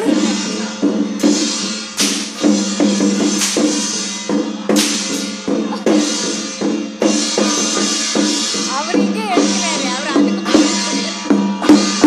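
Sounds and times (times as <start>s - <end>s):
cymbal crashes: 0.0s - 12.0s
drum strokes: 0.0s - 12.0s.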